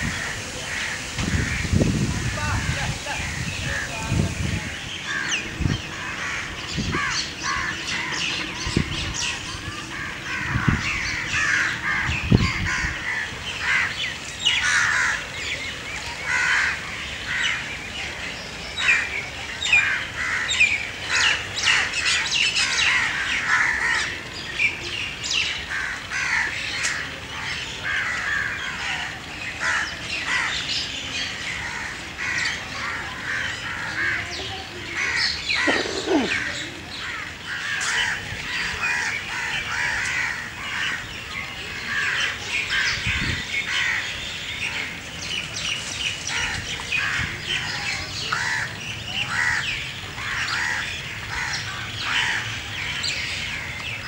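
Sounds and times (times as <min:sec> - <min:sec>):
birds calling and chirping: 0:00.0 - 0:54.0.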